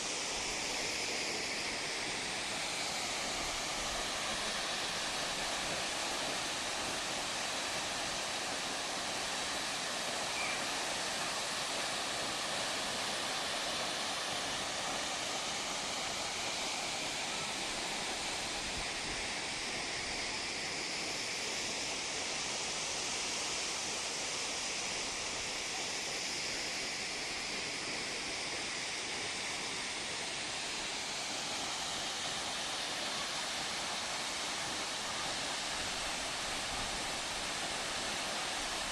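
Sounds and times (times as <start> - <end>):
waterfall roaring: 0.3 - 38.9.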